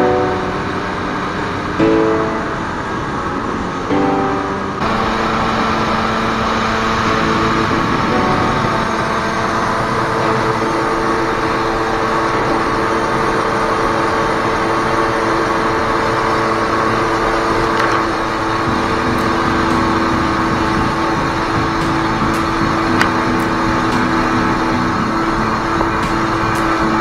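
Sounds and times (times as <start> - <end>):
jet ski engines running: 0.0 - 27.0.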